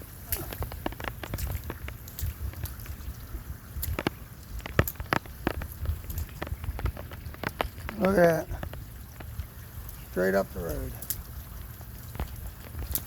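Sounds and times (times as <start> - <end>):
rain falling: 0.0 - 13.0
raindrops ticking: 0.0 - 13.0
steady low rumble: 0.0 - 13.0.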